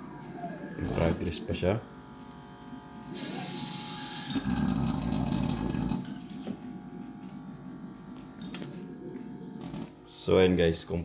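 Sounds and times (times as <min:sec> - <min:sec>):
machine mechanical whirring: 0:00.0 - 0:10.4.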